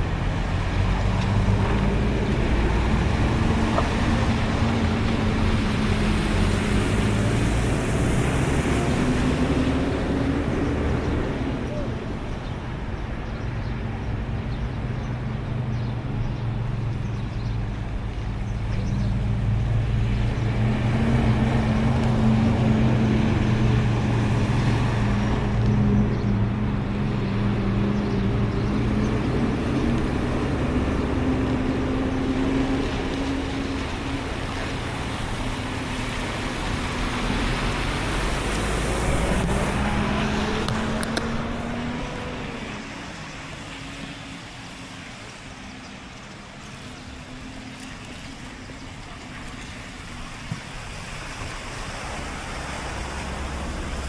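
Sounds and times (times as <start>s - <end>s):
passing tyres: 0.0s - 54.0s
vehicle engine humming: 0.0s - 54.0s.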